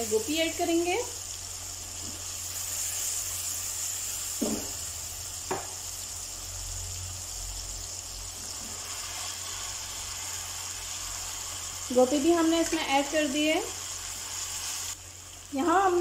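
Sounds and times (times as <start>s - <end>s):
masala sizzling in hot oil: 0.0s - 16.0s.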